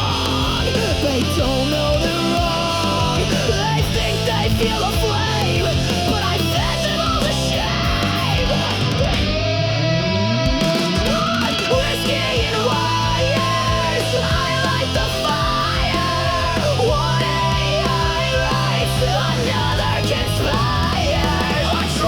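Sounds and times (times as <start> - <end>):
heavy metal music: 0.0 - 22.0.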